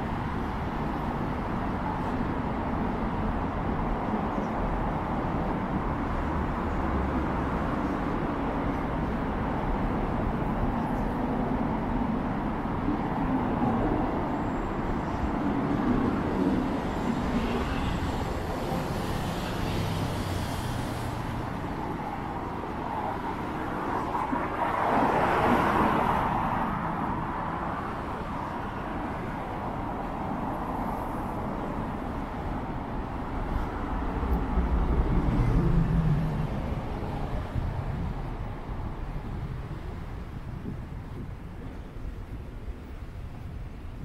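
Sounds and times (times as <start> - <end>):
hum of traffic: 0.0 - 44.0.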